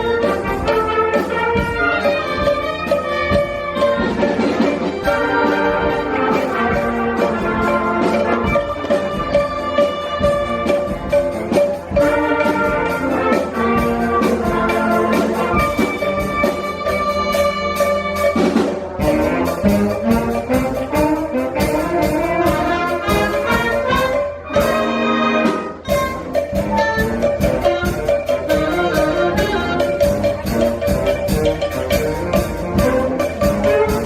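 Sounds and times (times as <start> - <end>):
brass carrying the tune: 0.0 - 34.0
percussion beat: 0.0 - 34.0
school band playing: 0.0 - 34.0.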